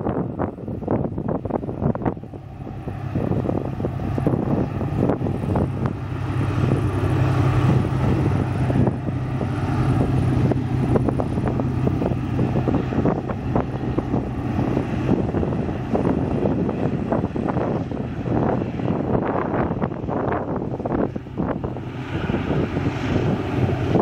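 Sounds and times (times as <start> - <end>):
boat engine droning: 0.0 - 24.0
wind buffeting microphone: 0.0 - 24.0.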